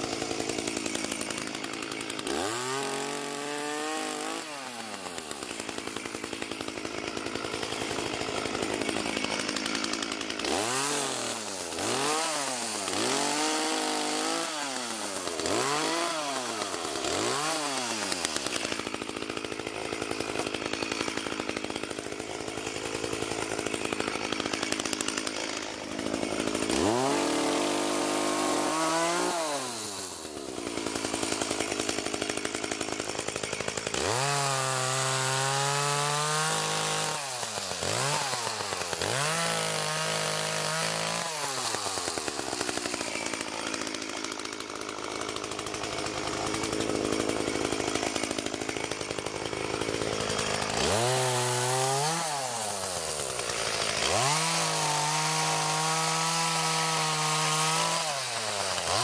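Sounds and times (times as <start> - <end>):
chainsaw cutting wood: 0.0 - 59.0
chainsaw engine revving: 0.0 - 59.0.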